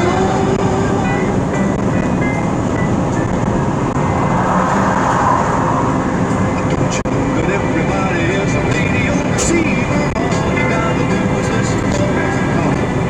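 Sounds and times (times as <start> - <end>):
vehicle driving at highway speed: 0.4 - 13.0.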